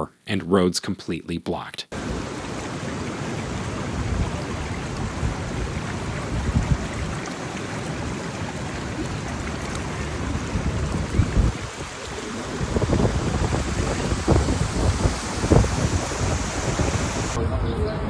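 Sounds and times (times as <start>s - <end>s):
floodwater rushing: 1.9s - 17.7s
wind gusting over microphone: 2.0s - 18.0s.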